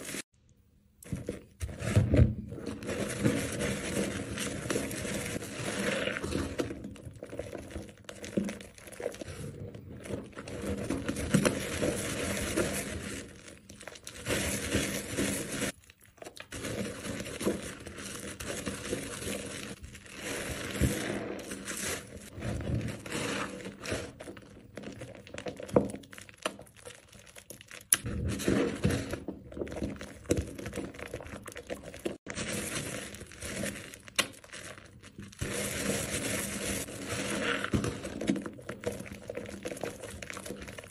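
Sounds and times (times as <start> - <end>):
wet soap foam squishing: 0.9 - 40.9.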